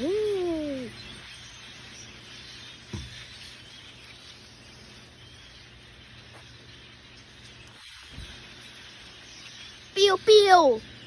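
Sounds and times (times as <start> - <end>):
birds chirping faintly: 0.0 - 11.0
outdoor background hiss: 0.0 - 11.0.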